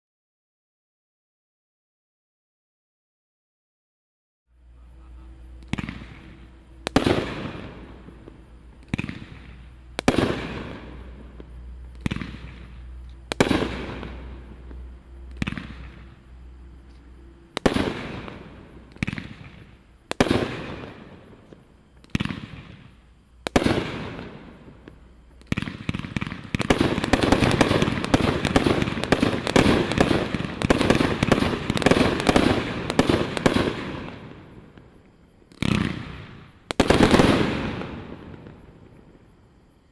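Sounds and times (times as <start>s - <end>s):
fireworks bangs: 4.8s - 16.3s, 17.5s - 39.2s.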